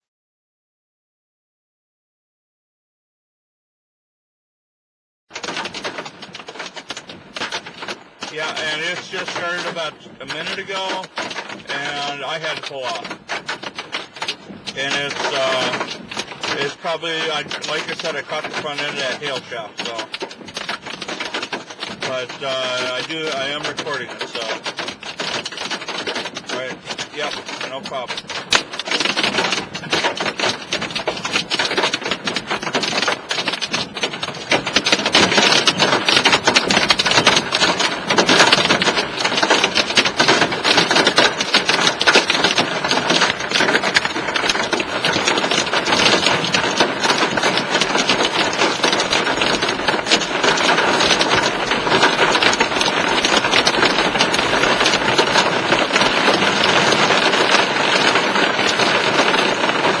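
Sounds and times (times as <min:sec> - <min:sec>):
hail pelting vehicle roof: 0:05.3 - 1:00.0.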